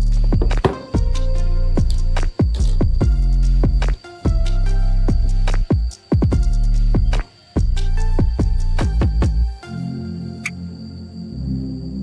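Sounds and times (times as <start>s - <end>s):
electronic music with heavy bass: 0.0s - 10.1s.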